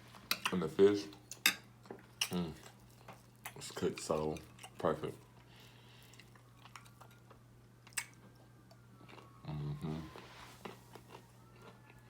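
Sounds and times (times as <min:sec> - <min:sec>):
low steady hum: 0:00.0 - 0:12.0
chewing crispy fried fish: 0:01.8 - 0:12.0.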